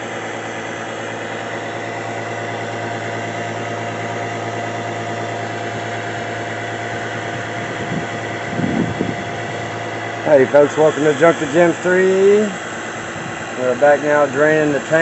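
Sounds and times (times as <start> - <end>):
fuel pump humming: 0.0 - 15.0.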